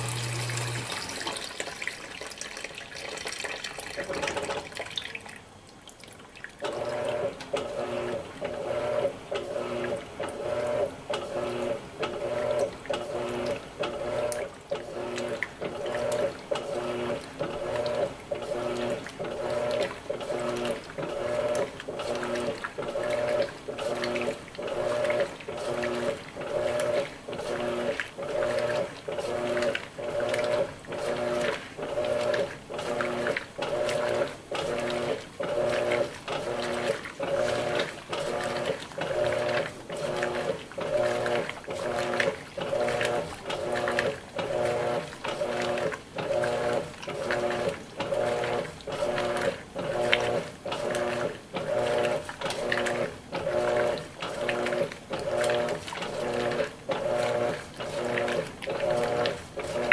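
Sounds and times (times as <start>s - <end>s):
washing machine motor humming in pulses: 0.0s - 2.2s, 3.3s - 5.4s, 6.1s - 59.9s.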